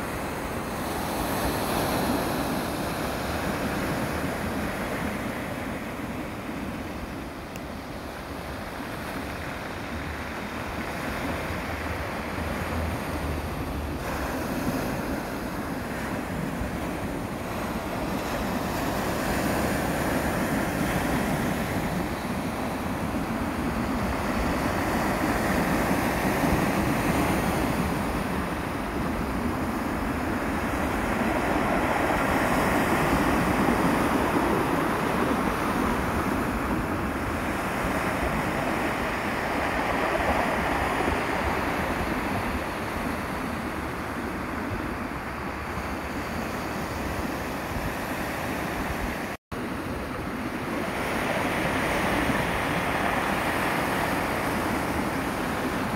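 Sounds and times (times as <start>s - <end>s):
small waves breaking: 0.0s - 55.9s.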